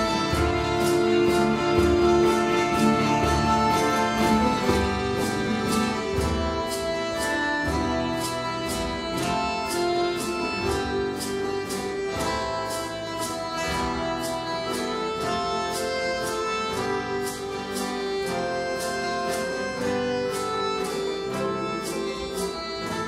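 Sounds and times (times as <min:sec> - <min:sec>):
accordion: 0:00.0 - 0:23.0
guitar: 0:00.0 - 0:23.0
maracas shaking: 0:00.0 - 0:23.0
violin: 0:00.0 - 0:23.0.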